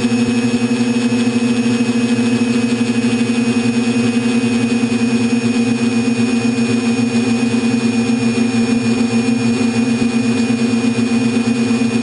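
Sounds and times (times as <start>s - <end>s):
quadcopter motors humming: 0.0s - 12.0s.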